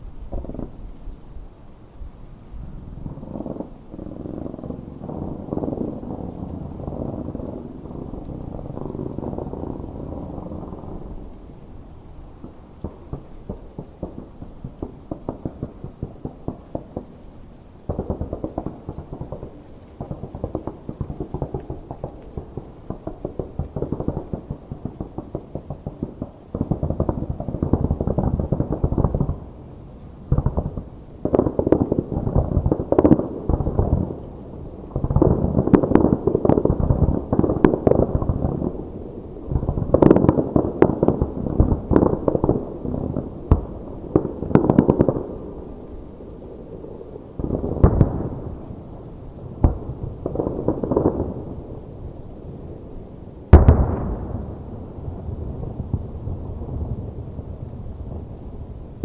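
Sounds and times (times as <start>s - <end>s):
fireworks crackling and popping: 0.0s - 59.0s
low fireworks booms: 0.0s - 59.0s.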